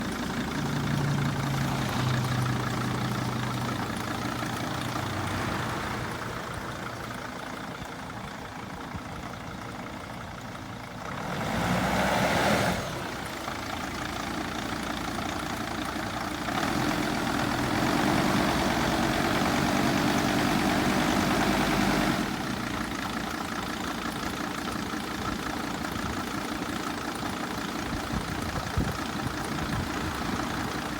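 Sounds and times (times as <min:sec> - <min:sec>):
van engine idling and revving: 0:00.0 - 0:30.9.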